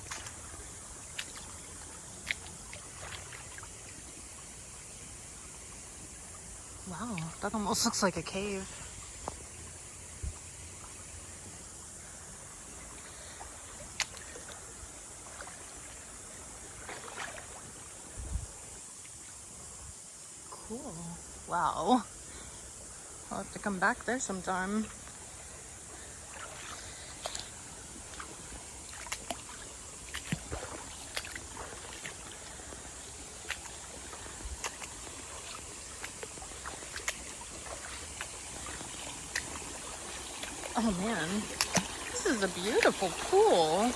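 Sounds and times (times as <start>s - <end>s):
creek water running: 0.0s - 43.9s.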